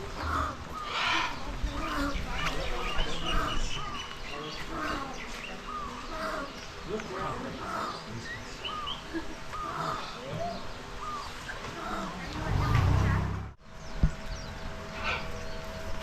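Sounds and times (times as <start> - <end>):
many birds calling: 0.0 - 16.0.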